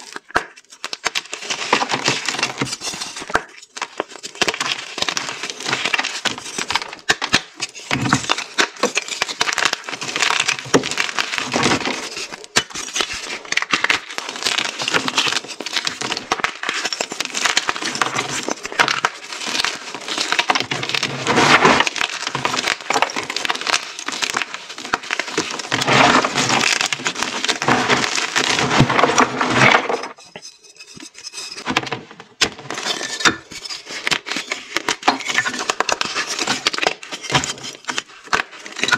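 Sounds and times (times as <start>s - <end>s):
chalk blocks crunching in hands: 0.0s - 38.9s.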